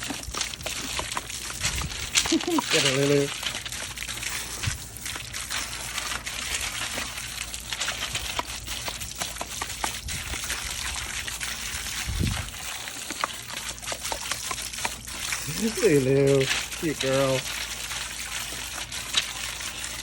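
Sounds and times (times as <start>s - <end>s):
garden hose spraying: 0.0s - 20.0s
water splashing: 0.0s - 20.0s.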